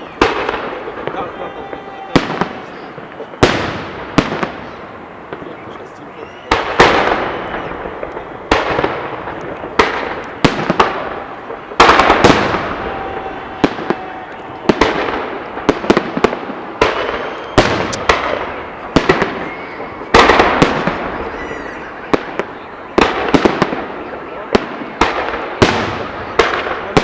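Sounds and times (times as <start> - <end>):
fireworks bursting with loud bangs: 0.0 - 27.0
rumble after fireworks bangs: 0.0 - 27.0.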